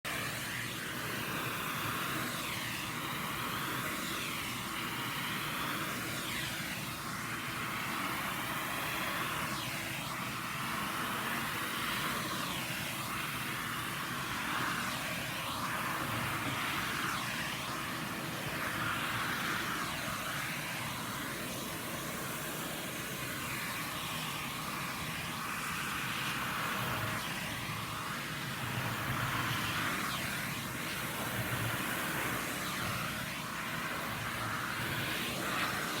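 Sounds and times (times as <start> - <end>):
vacuum cleaner running: 0.1 - 36.0.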